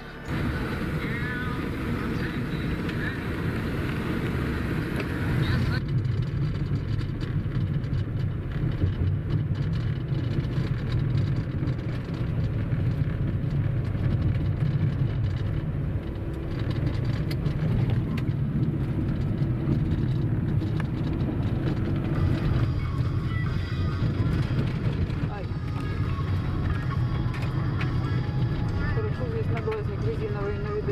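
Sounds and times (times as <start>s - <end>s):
car interior engine and tyre drone: 0.0s - 30.9s.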